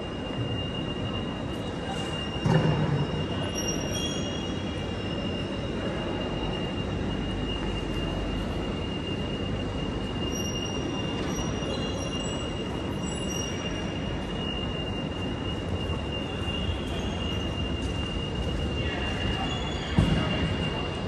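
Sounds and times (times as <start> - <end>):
high-pitched whine: 0.0 - 21.0
trains idling drone: 0.0 - 21.0.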